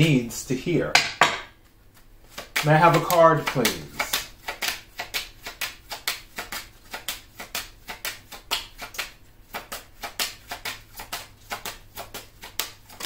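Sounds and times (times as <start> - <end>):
cards being shuffled: 1.6 - 13.0.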